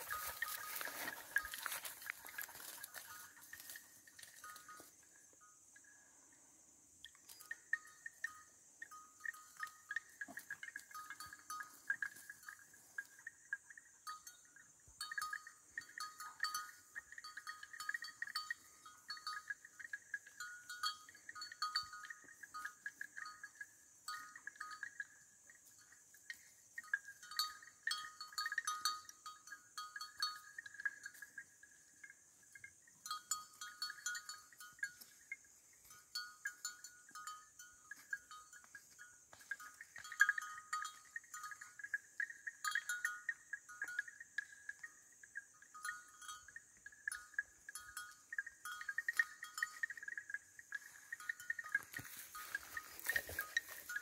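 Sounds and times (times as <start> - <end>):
animal bell clinking: 0.0 - 54.0
insects droning: 0.0 - 54.0.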